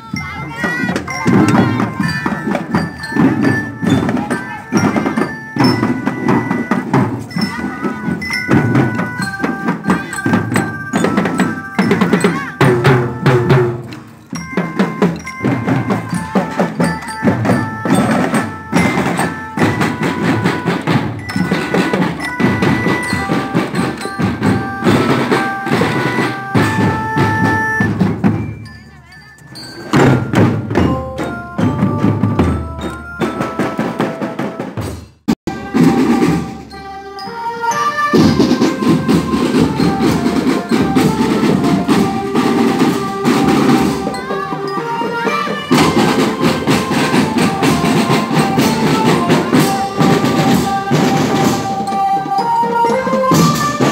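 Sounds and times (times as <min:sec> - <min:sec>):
glockenspiel melody: 0:00.0 - 0:53.9
bass and snare drums marching: 0:00.1 - 0:28.9, 0:29.5 - 0:36.9, 0:38.0 - 0:53.9.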